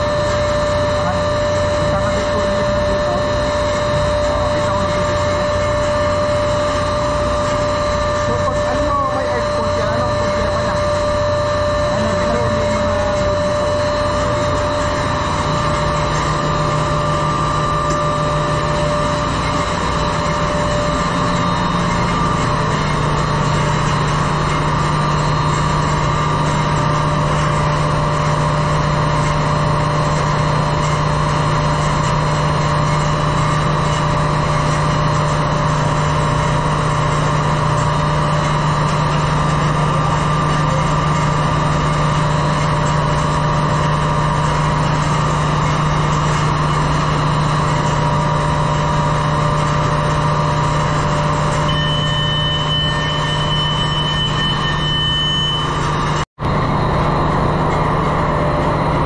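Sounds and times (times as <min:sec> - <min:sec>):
engine room machinery drone: 0:00.0 - 0:59.0
high-pitched whine: 0:00.0 - 0:59.0
machinery whining tones: 0:00.0 - 0:59.0.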